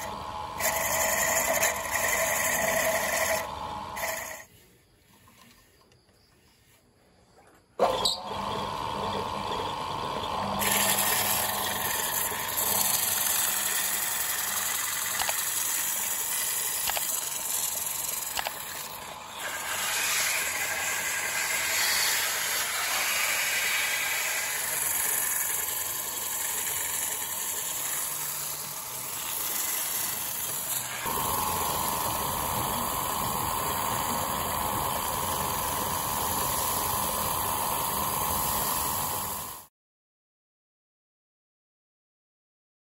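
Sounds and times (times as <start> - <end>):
wood lathe humming: 0.0 - 4.5, 7.8 - 39.7
sandpaper hissing on spinning wood: 0.0 - 5.7, 10.6 - 39.7.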